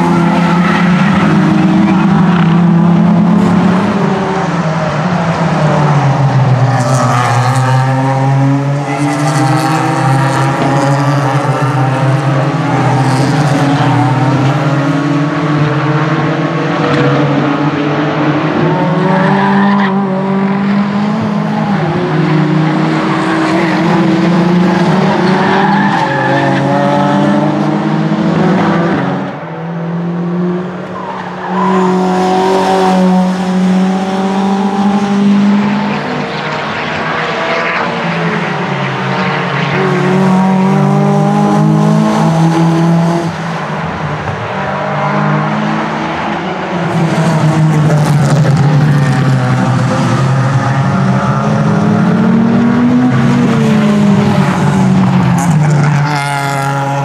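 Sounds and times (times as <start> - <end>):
racing cars passing: 0.0 - 57.0.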